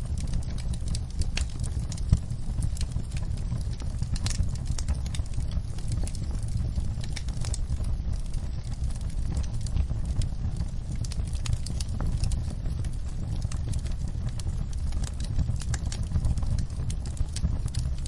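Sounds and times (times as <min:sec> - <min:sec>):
low rumble: 0:00.0 - 0:17.8
fire crackling: 0:00.0 - 0:18.0.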